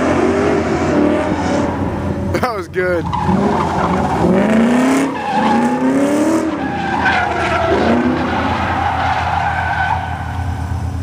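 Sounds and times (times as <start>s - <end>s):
car engine revving: 0.0s - 11.0s
tyres skidding on asphalt: 0.0s - 11.0s.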